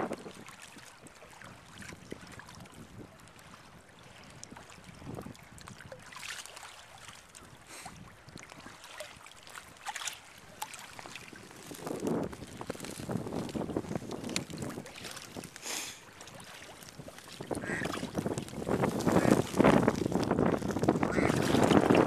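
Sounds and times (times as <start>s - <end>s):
short water splashes: 0.0s - 22.0s
water sloshing and lapping: 0.0s - 22.0s.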